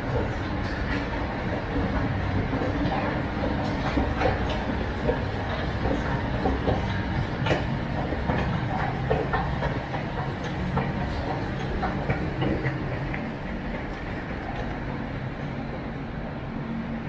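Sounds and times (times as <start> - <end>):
escalator steps clicking: 0.0 - 15.3
escalator machine hum: 0.0 - 17.0.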